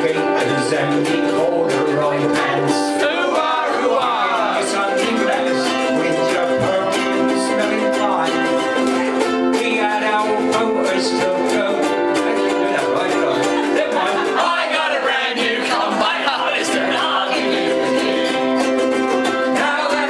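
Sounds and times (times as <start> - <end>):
ukuleles strumming chords: 0.0 - 20.0.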